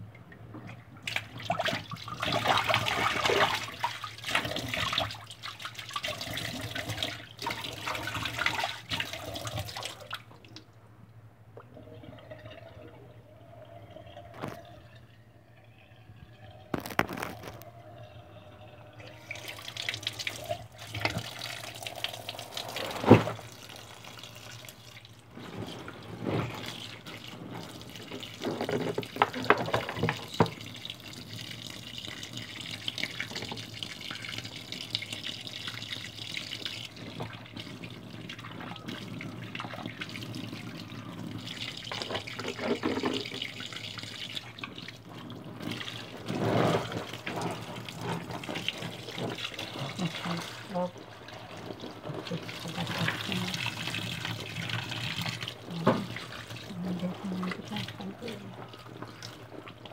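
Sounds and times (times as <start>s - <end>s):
tap water running and splashing: 0.0s - 10.7s, 11.6s - 59.9s.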